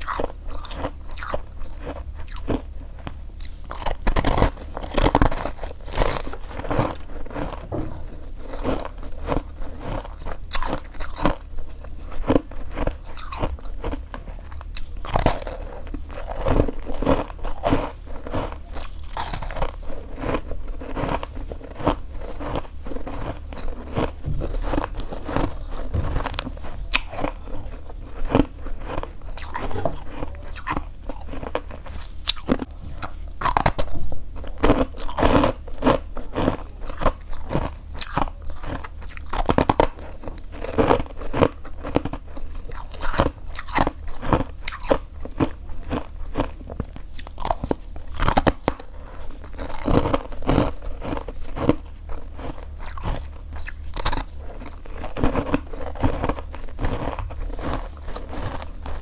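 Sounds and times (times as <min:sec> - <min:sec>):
frost crunching while chewed: 0:00.0 - 0:59.0
steady low hum: 0:00.0 - 0:59.0.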